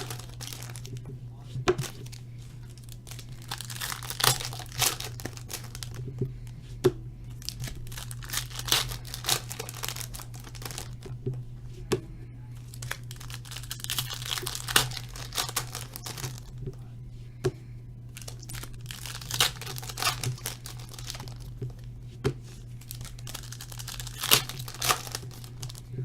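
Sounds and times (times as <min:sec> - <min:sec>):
card wrappers tearing and crinkling: 0:00.0 - 0:06.5, 0:07.3 - 0:11.2, 0:12.6 - 0:16.6, 0:18.1 - 0:21.9, 0:22.6 - 0:26.0
steady low hum: 0:00.0 - 0:26.0.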